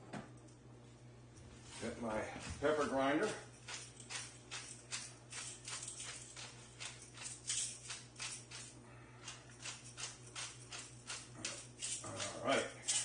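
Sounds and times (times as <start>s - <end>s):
pepper grinder rasping: 2.4s - 13.0s.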